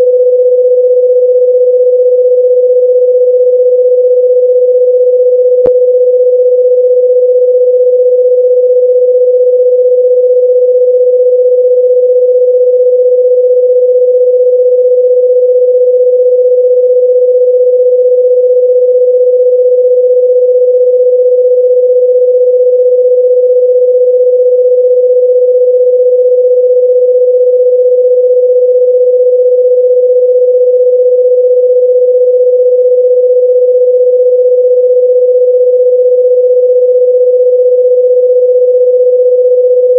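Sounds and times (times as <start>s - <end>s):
steady electronic pure tone: 0.0s - 39.9s.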